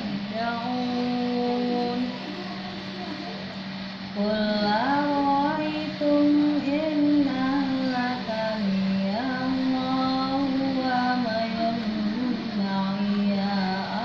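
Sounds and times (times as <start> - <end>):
high voice singing slow melody: 0.0 - 14.0
steady low hum: 0.0 - 14.0.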